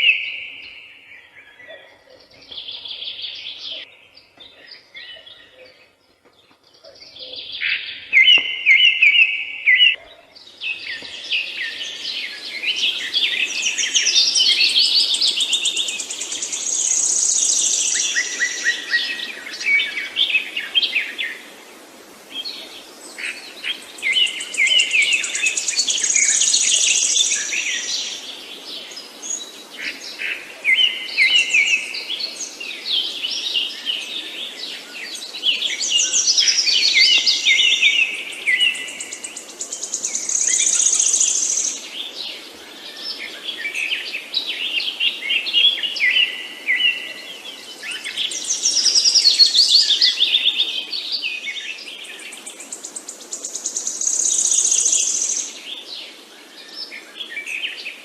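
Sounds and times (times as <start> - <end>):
low background hiss: 0.0 - 58.0
songbirds chirping and singing: 0.0 - 58.0.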